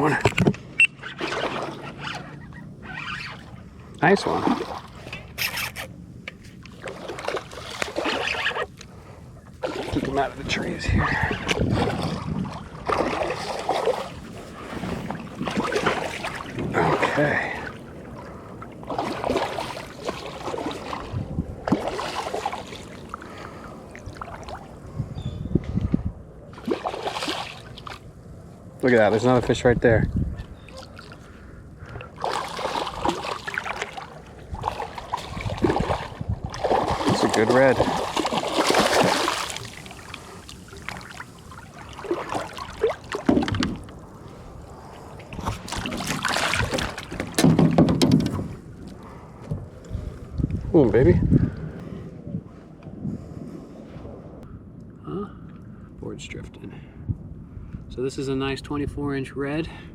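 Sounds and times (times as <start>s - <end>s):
water lapping and splashing: 0.0s - 25.2s, 26.5s - 54.1s.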